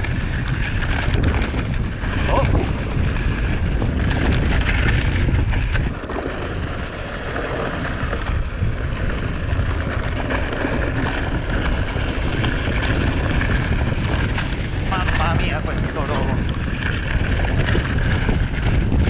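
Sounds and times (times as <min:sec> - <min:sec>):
mountain bike rolling on trail: 0:00.0 - 0:19.0
wind buffeting microphone: 0:00.0 - 0:19.0.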